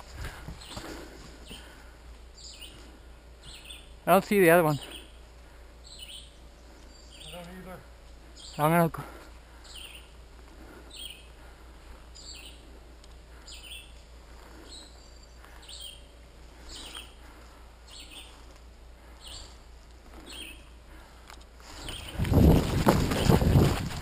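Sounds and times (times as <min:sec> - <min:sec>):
bird calling: 0:00.6 - 0:21.1.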